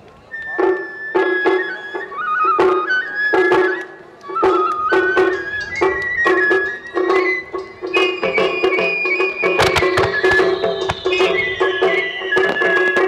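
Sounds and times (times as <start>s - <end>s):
flute melody: 0.2s - 13.0s
regular percussive beats: 0.6s - 13.0s.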